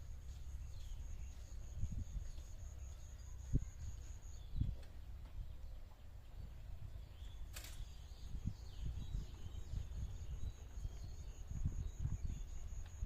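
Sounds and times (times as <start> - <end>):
faint bird chirps: 0.2 - 13.0.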